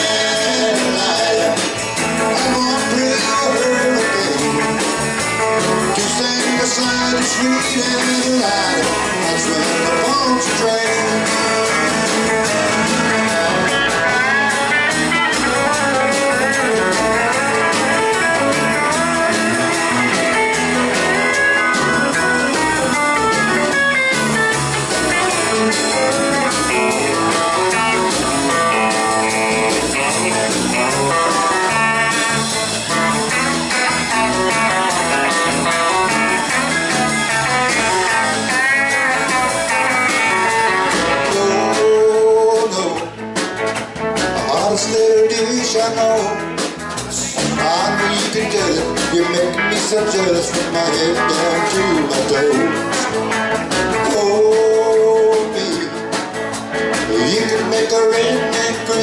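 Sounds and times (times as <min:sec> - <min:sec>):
bass guitar: 0:00.0 - 0:59.0
drums: 0:00.0 - 0:59.0
electric guitar lead: 0:00.0 - 0:59.0
rhythm guitar: 0:00.0 - 0:59.0.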